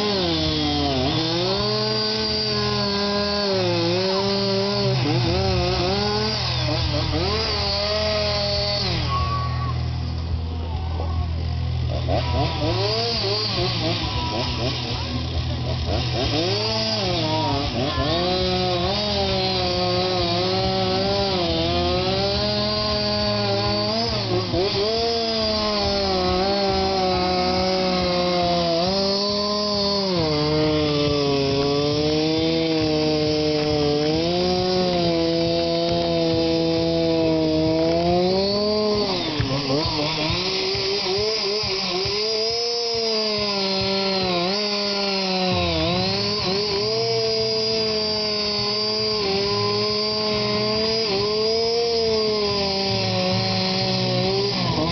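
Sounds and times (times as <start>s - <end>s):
chainsaw carving wood: 0.0s - 54.9s.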